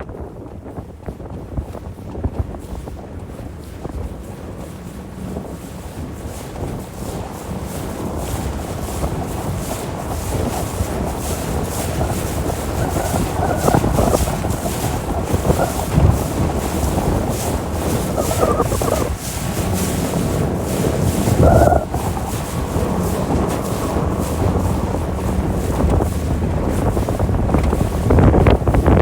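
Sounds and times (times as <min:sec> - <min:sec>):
motorboat engine rumbling: 0:00.0 - 0:29.0
wind buffeting microphone: 0:00.0 - 0:29.0
water rushing past: 0:03.8 - 0:29.0.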